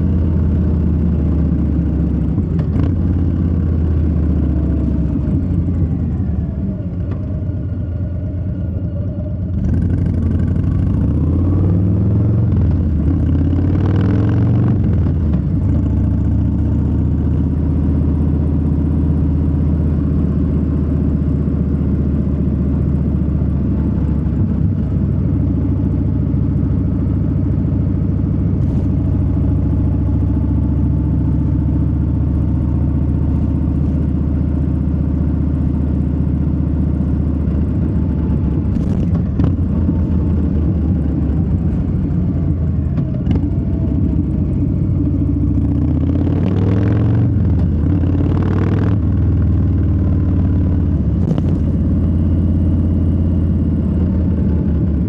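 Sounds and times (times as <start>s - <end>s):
motorcycle engine revving: 0.0s - 25.2s, 28.4s - 55.0s.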